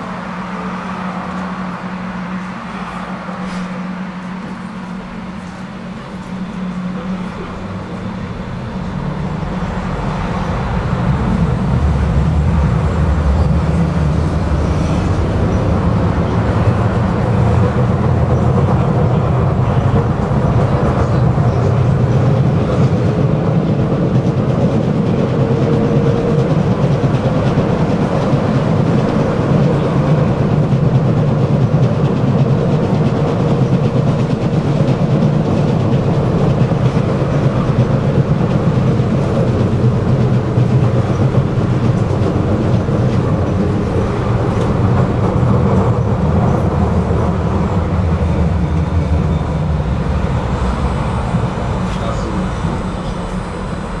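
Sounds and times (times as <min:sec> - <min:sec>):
rail clatter: 0:00.0 - 0:54.0
tram rumbling along track: 0:00.0 - 0:54.0.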